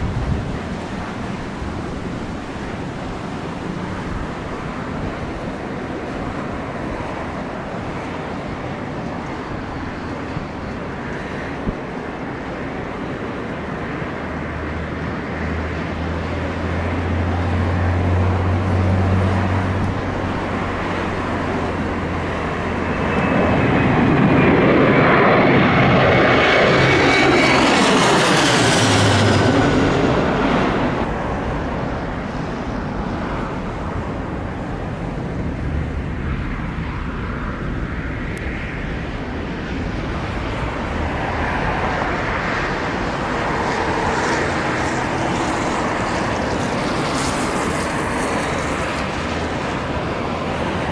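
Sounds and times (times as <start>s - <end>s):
airliner flying past: 0.0s - 50.9s
gusty wind: 0.0s - 50.9s.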